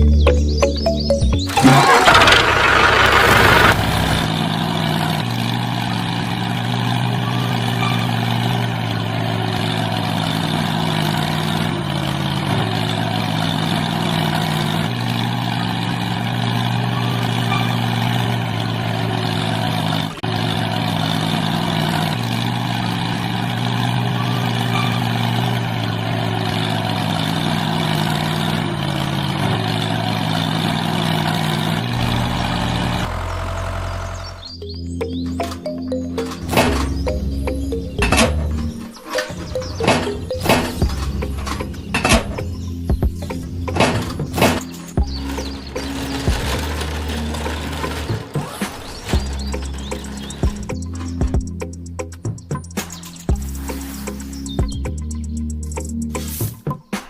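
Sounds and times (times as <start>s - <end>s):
tractor engine running: 0.0s - 56.4s.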